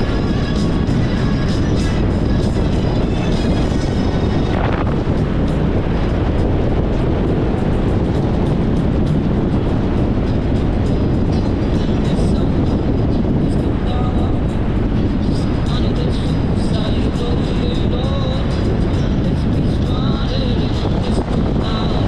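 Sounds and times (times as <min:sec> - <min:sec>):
motorcycle engine cruising: 0:00.0 - 0:22.0
wind noise on microphone: 0:00.0 - 0:22.0.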